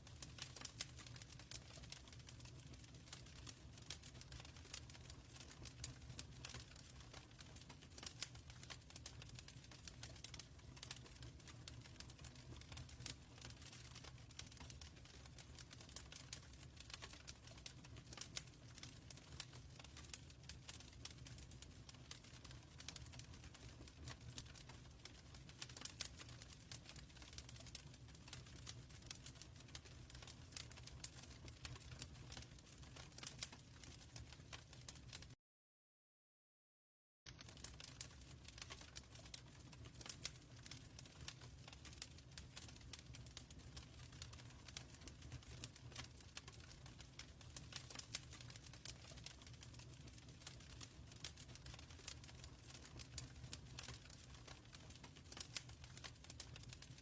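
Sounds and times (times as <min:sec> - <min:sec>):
wood fire crackling: 0:00.0 - 0:35.4, 0:37.3 - 0:57.0.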